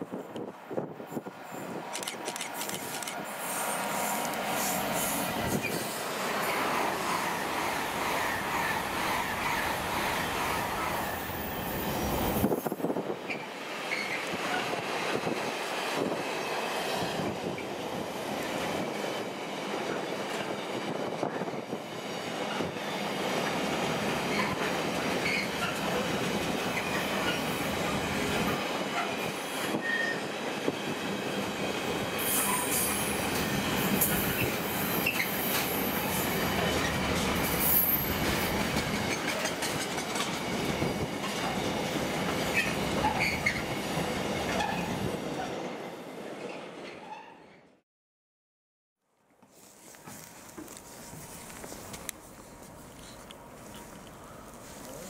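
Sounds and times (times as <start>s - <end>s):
freight train wheels rumbling on rail: 0.0s - 47.2s.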